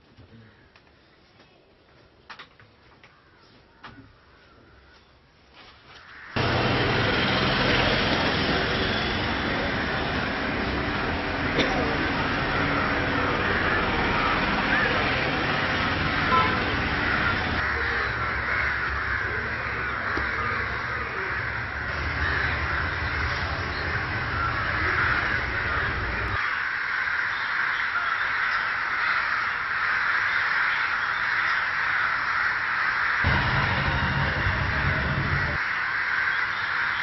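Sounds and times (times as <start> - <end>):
crows cawing: 0.3 - 1.1, 2.8 - 37.0.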